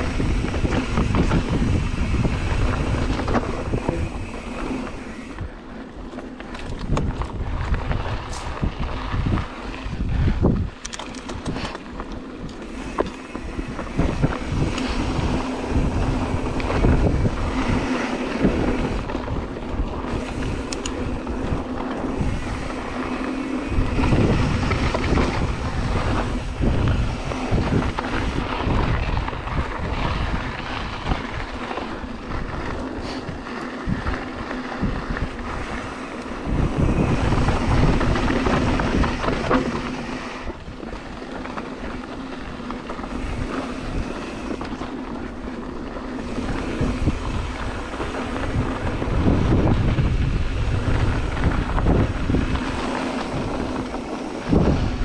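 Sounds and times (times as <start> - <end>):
bike knocks and rattles: 0.0 - 55.0
rolling tyre noise: 0.0 - 55.0
wind buffeting microphone: 0.0 - 55.0.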